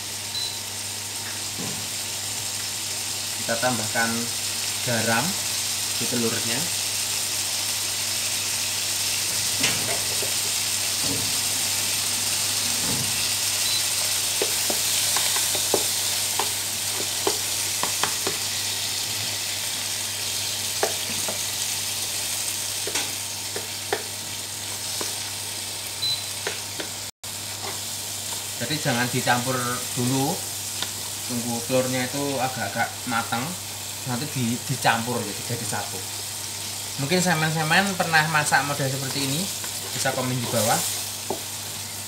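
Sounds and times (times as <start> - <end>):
food sizzling in a wok: 0.0 - 42.0.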